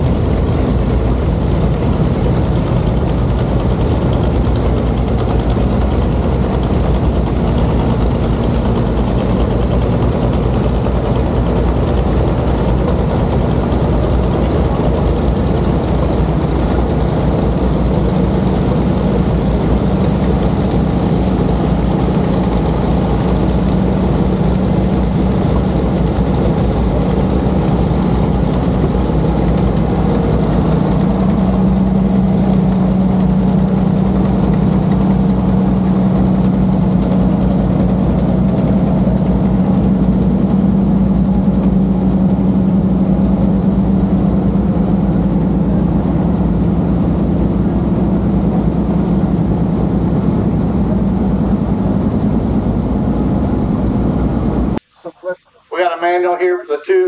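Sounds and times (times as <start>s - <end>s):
heavy engine idling: 0.0s - 57.0s.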